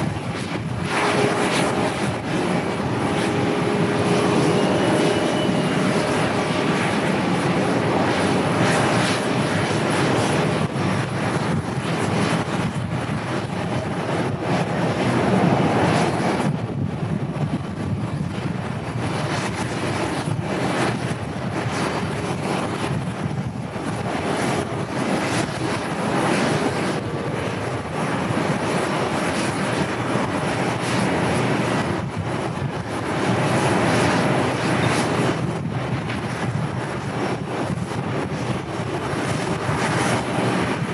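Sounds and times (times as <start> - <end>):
airliner engines: 0.0 - 40.9
wind on microphone: 0.0 - 40.9.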